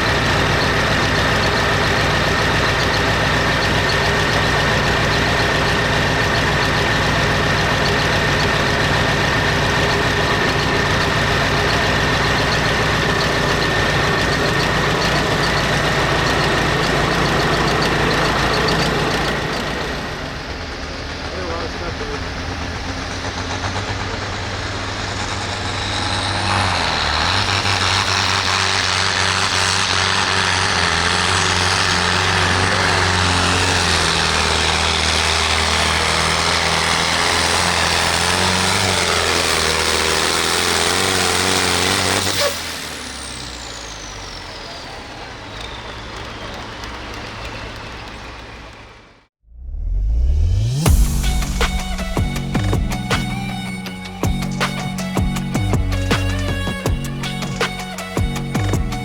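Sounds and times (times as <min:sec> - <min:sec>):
turbo whine winding down: 0:00.0 - 0:48.2, 0:49.5 - 0:59.0
tractor diesel engine under load: 0:00.0 - 0:59.0.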